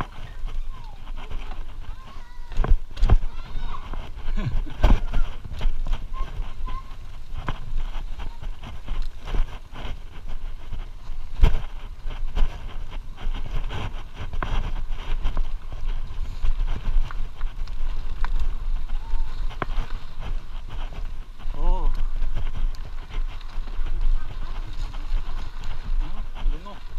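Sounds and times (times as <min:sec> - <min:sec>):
bike rattling over bumps: 0:00.0 - 0:26.9
bike tyres rumbling on dirt: 0:00.0 - 0:26.9.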